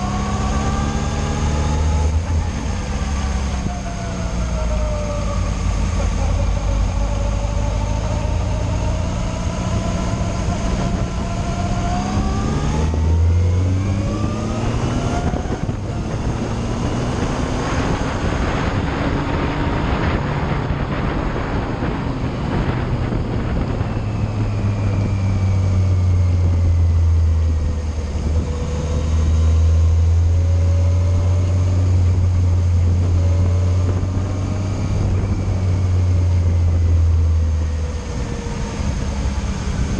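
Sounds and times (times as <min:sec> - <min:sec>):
motorcycle engine accelerating: 0:00.0 - 0:39.9
rushing wind noise: 0:00.0 - 0:39.9.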